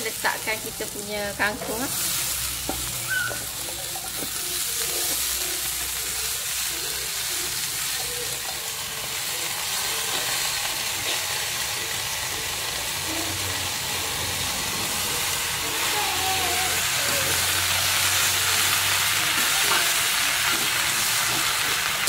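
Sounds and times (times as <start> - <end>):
oil sizzling in a wok: 0.0 - 22.0.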